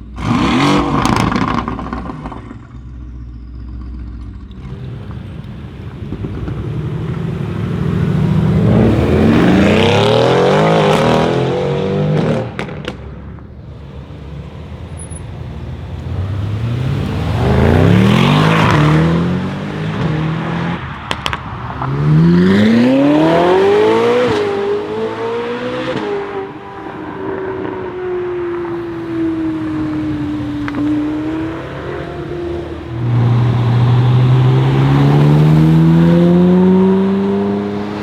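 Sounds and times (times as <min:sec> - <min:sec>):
exhaust cracks: 0:00.0 - 0:24.8, 0:25.7 - 0:36.0
car engine accelerating: 0:00.0 - 0:38.0.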